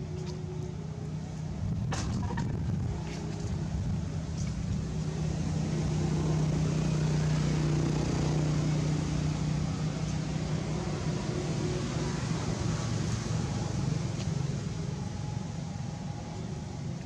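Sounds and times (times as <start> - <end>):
motor engine running: 0.0 - 17.0.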